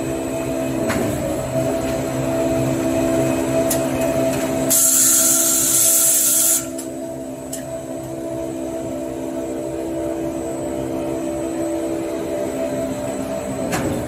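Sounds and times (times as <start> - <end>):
machine humming with held tones: 0.0 - 14.0.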